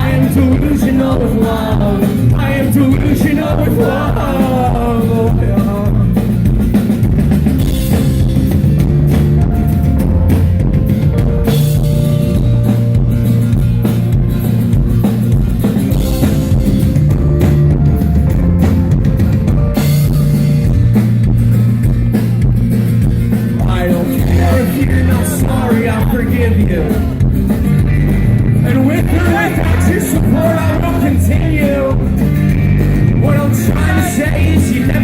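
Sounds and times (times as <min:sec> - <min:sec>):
bass drum: 0:00.0 - 0:35.0
rock band playing: 0:00.0 - 0:35.0.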